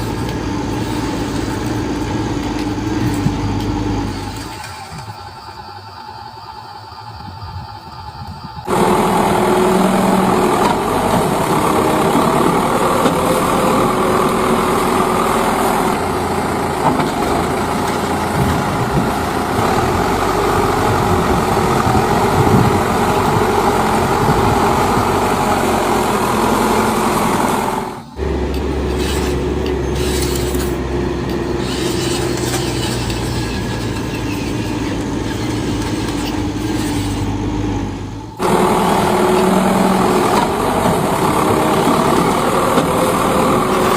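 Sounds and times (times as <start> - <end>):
toy truck motor and gears: 0.0 - 43.9.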